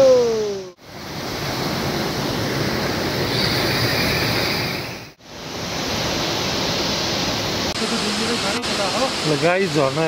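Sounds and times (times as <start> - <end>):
waterfall rushing: 1.6 - 10.0.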